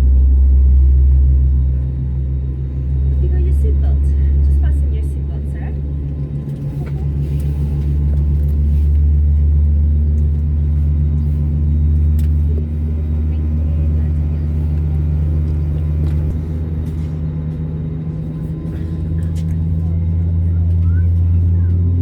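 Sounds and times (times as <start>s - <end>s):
aircraft cabin droning hum: 0.0s - 22.0s.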